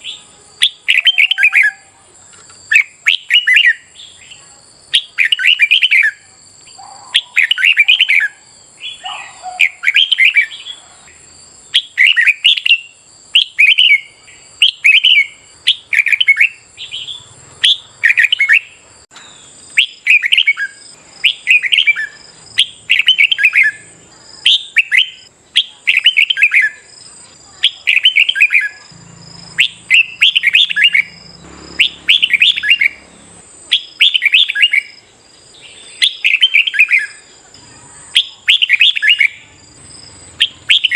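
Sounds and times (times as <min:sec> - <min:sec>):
bird singing whistled phrases: 0:00.0 - 0:01.9, 0:02.7 - 0:10.9, 0:11.7 - 0:26.9, 0:27.6 - 0:28.9, 0:29.5 - 0:31.2, 0:31.8 - 0:33.0, 0:33.7 - 0:35.0, 0:35.6 - 0:39.5, 0:40.4 - 0:40.9.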